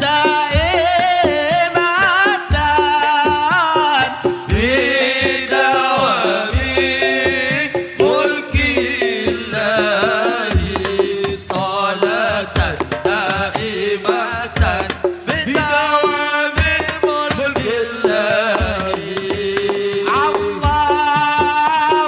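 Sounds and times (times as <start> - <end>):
hand-drum percussion: 0.0 - 22.0
ornamented vocal melody: 0.0 - 22.0.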